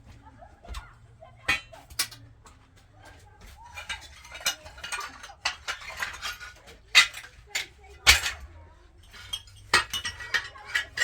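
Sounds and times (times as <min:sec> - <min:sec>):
hand tools clinking and scraping: 0:00.0 - 0:11.0.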